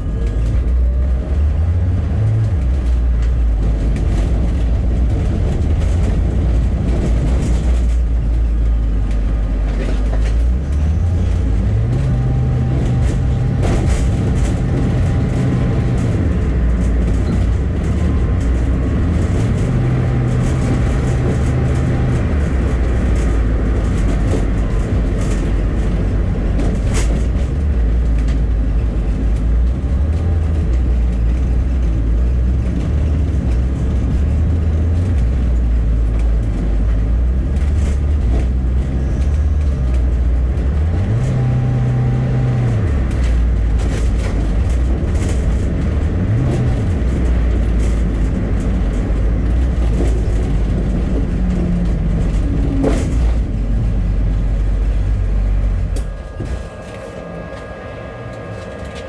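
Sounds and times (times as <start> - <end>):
bus engine and road noise: 0.0 - 59.0.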